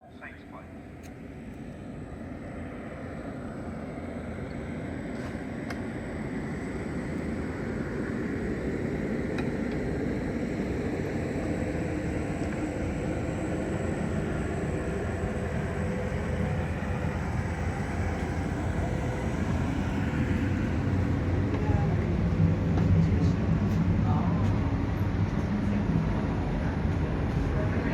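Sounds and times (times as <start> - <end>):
passenger train running: 0.0 - 27.9.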